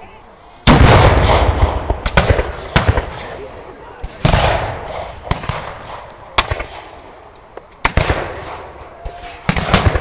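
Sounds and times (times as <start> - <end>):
musket shots echoing: 0.7 - 7.0, 7.8 - 10.0.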